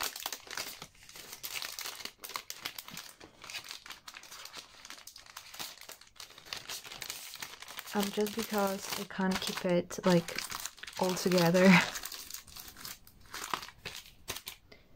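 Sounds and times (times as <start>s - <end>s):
plastic sleeve crinkling: 0.0s - 14.7s.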